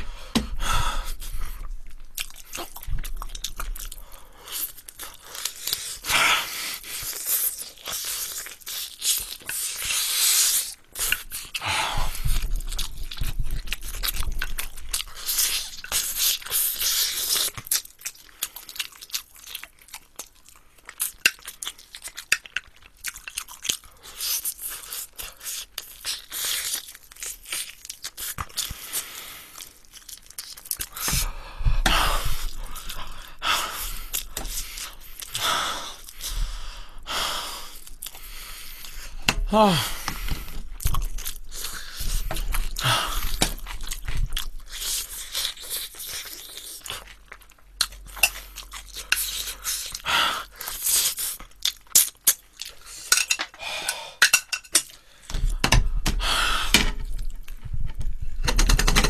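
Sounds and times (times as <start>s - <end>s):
crunching and chewing fried chicken: 1.1s - 36.5s, 37.6s - 53.6s.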